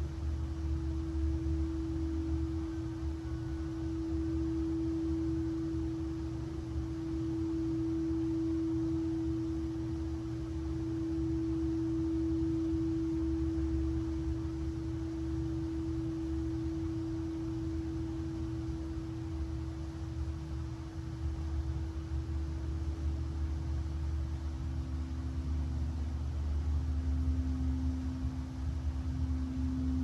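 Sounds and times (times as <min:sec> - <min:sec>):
singing bowl tone: 0:00.6 - 0:19.7, 0:24.7 - 0:30.0.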